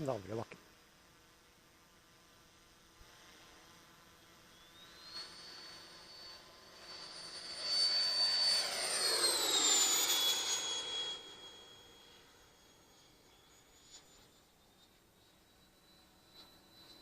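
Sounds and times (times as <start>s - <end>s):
rc jet ducted fan whining: 0.0s - 17.0s.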